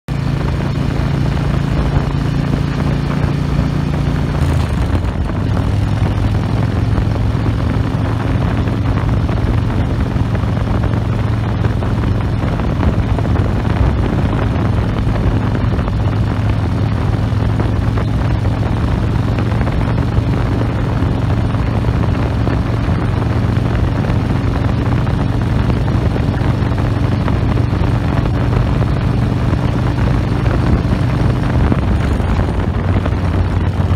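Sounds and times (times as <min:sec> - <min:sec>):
motorcycle engine running: 0:00.1 - 0:33.9
wind rushing over microphone: 0:00.1 - 0:33.9.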